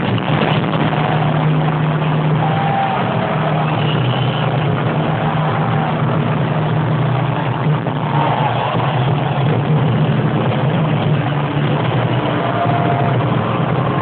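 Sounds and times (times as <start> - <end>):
stadium crowd din: 0.0 - 14.0.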